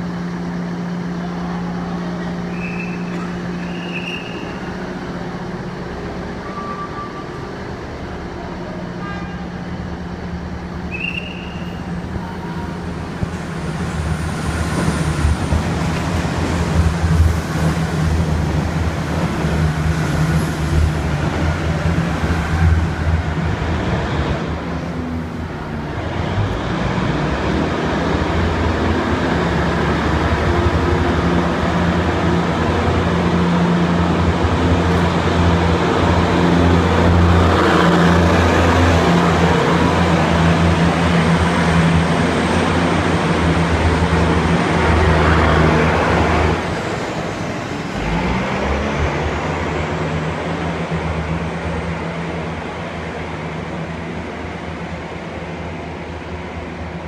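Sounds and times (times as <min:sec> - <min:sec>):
diesel engine drone: 0:00.0 - 0:57.0
train wheels on rails: 0:00.0 - 0:57.0.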